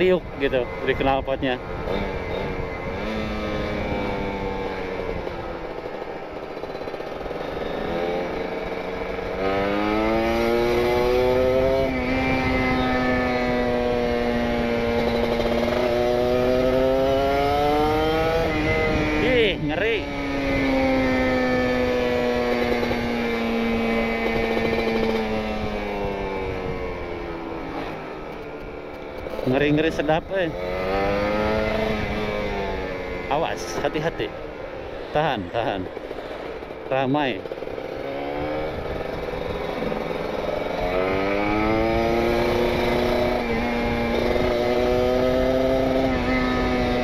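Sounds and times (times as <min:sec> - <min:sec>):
road rumble: 0:00.0 - 0:47.0
wind: 0:00.0 - 0:47.0
motorcycle engine revs falling: 0:00.5 - 0:47.0.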